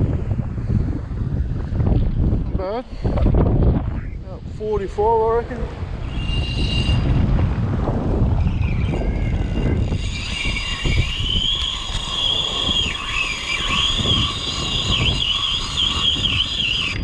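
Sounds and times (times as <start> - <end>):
high wavering whine: 0.0 - 17.0
strong wind buffeting microphone: 0.0 - 17.0.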